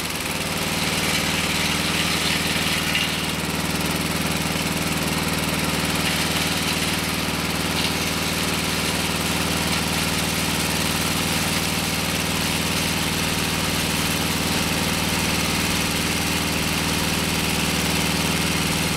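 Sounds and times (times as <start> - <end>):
saw blade cutting log: 0.0 - 18.9
sawmill engine running: 0.0 - 18.9.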